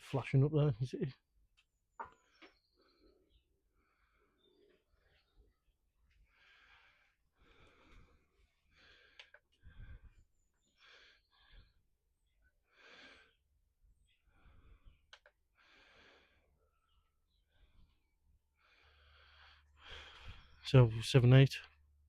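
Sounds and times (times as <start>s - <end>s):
faint breaths: 2.1s - 20.9s.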